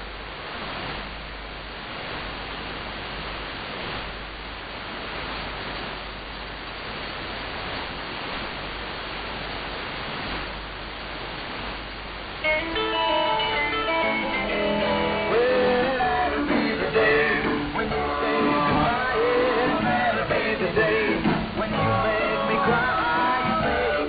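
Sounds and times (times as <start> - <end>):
shortwave radio static hiss: 0.0 - 24.0.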